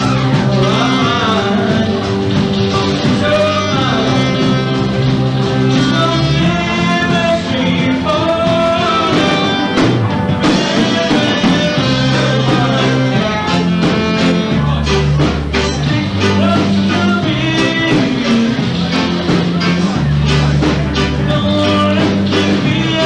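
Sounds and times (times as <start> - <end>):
bass line: 0.0 - 23.0
electric guitar: 0.0 - 23.0
live band playing pop music: 0.0 - 23.0.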